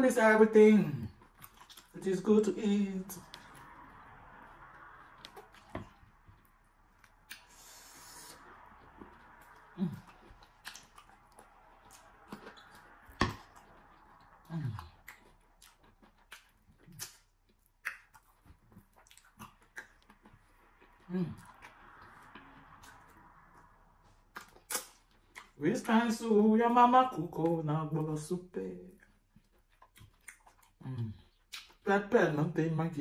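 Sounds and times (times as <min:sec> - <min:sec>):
wet mouth clicks and chewing: 0:01.0 - 0:02.0, 0:03.1 - 0:25.6, 0:28.8 - 0:31.9.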